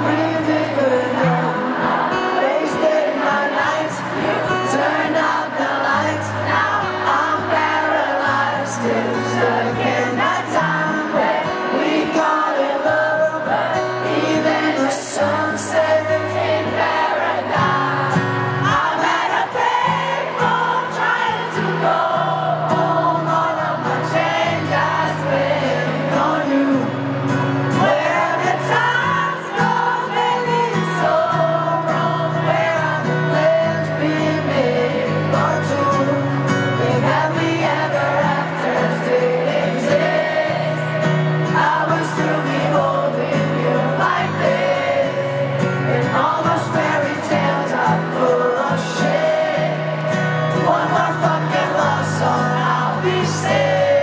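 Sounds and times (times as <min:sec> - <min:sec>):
man singing into microphone: 0:00.0 - 0:16.8, 0:17.8 - 0:54.0
crowd singing along: 0:00.0 - 0:54.0
strummed acoustic guitars: 0:00.0 - 0:54.0.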